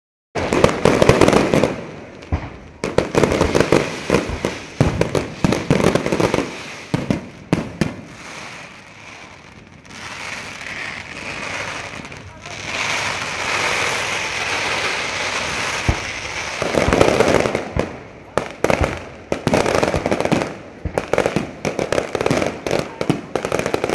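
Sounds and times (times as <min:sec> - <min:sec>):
fireworks bangs and crackling: 0:00.4 - 0:23.9.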